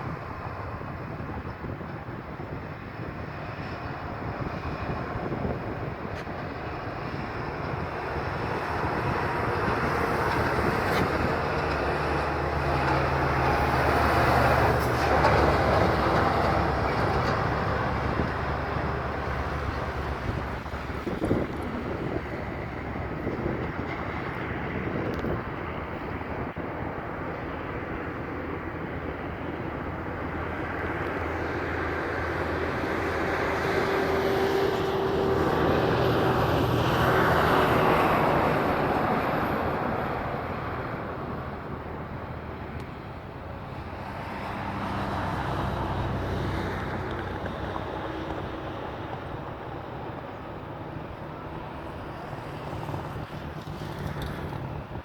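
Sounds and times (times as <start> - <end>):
trucks passing on highway: 0.0 - 55.0.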